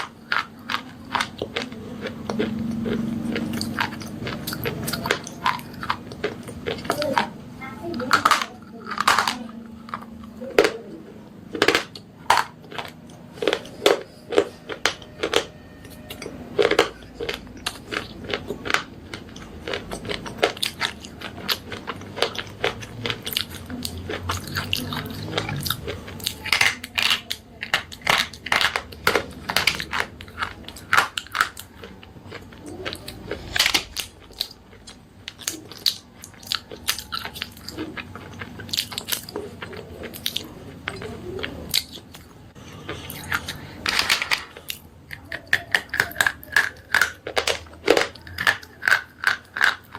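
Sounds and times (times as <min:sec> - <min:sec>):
slate pencils crunching and snapping: 0:00.0 - 0:49.9.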